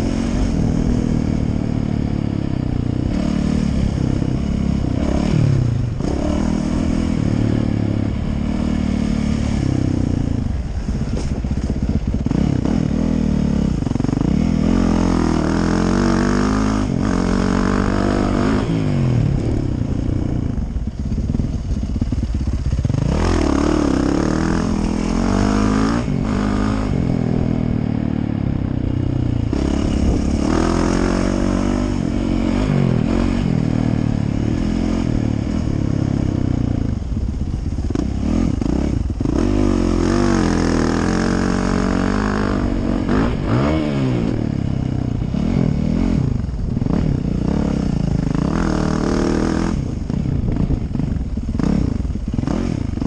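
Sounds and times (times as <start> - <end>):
motorcycle engine revving: 0.0 - 53.0
wind rushing over microphone: 0.0 - 53.0.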